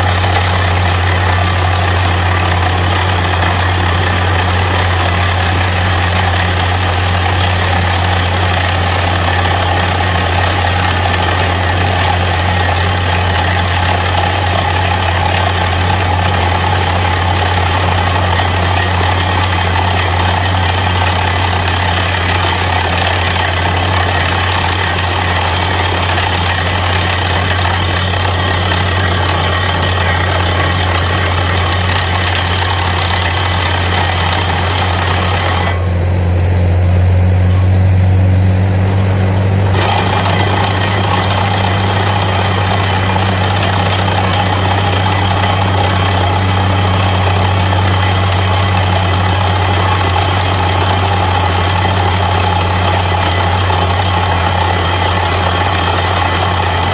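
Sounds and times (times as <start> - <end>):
drilling rig engine drone: 0.0 - 56.9.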